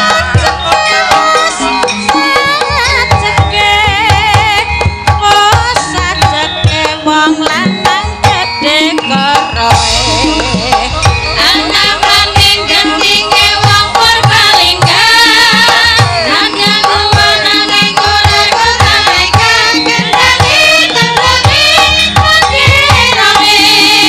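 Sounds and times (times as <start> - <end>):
gamelan music: 0.0 - 24.0
hand drums beating: 0.0 - 24.0
woman singing with vibrato: 0.0 - 24.0.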